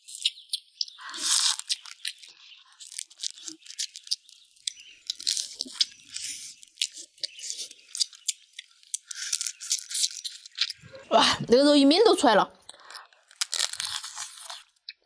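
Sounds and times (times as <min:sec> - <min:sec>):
crab shells cracking and crunching: 0:00.0 - 0:10.9, 0:12.6 - 0:15.0.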